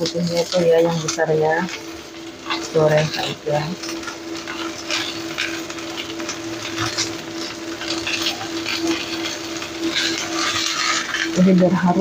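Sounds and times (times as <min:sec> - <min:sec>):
oil sizzling in a wok: 0:00.0 - 0:12.0
spatula stirring in a pan: 0:00.0 - 0:12.0
steady hum: 0:00.0 - 0:12.0.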